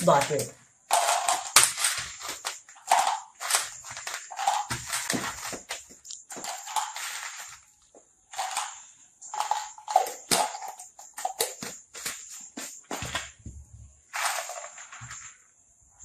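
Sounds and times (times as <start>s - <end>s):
chickpeas rattling into bottle: 0.0s - 13.3s, 14.1s - 15.5s.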